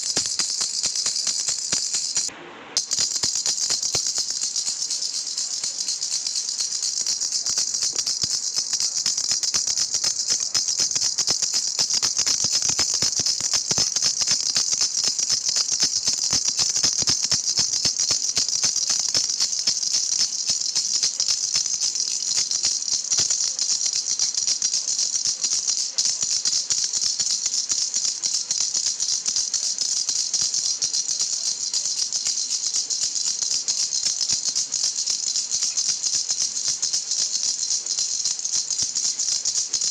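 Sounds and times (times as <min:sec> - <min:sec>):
baby toy rattle shaking: 0:00.0 - 0:39.9.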